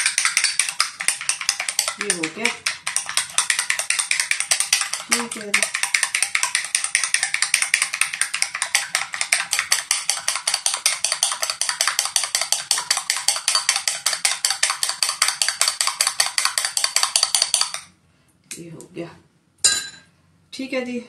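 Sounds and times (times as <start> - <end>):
whisk clicking against ceramic bowl: 0.0 - 17.9.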